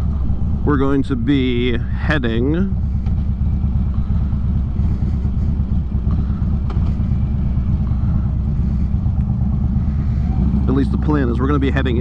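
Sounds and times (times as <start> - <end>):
motorcycle engine rumbling: 0.0 - 12.0
road noise: 0.0 - 12.0.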